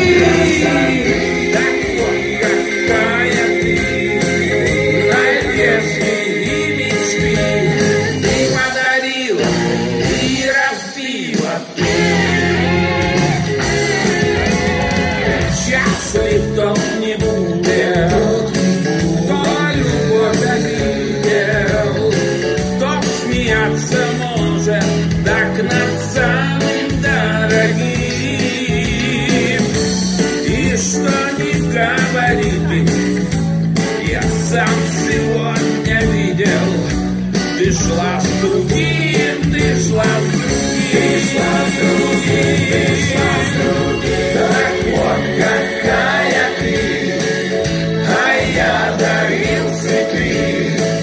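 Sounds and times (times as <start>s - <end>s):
pop-rock band music: 0.0s - 51.0s.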